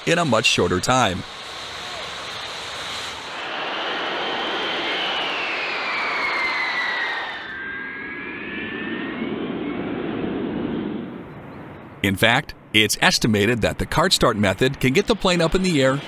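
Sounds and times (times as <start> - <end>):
jet engines spooling up: 0.0 - 12.0, 12.6 - 16.0
jet engine whine and roar: 0.0 - 16.0.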